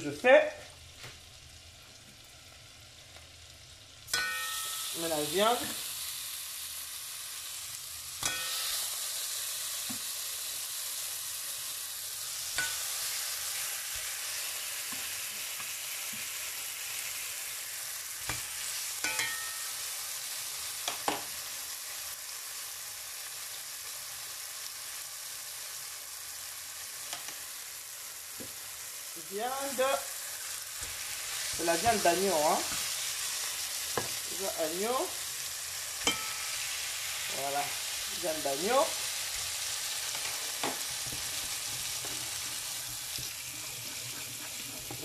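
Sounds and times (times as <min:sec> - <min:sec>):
meat sizzling in a frying pan: 0:00.0 - 0:45.0.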